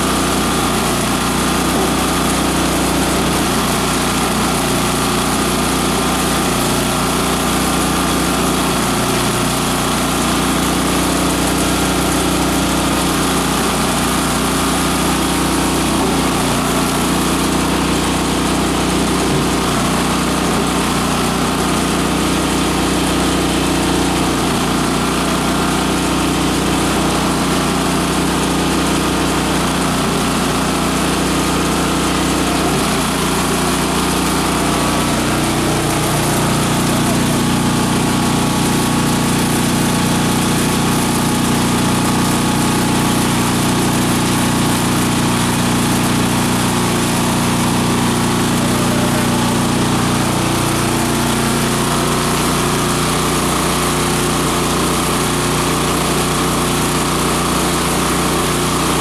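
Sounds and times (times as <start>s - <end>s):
rush of shredded material: 0.0s - 59.0s
shredder machine drone: 0.0s - 59.0s.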